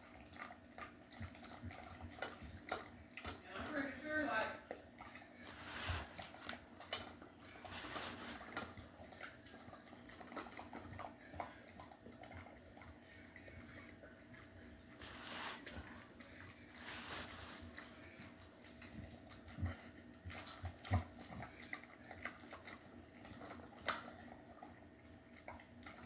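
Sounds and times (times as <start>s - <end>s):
dog chewing and licking: 0.0s - 26.0s.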